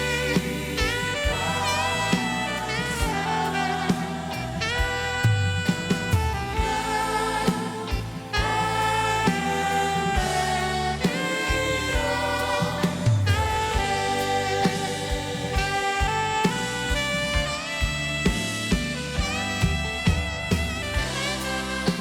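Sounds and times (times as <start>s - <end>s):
worship band playing: 0.0s - 22.0s.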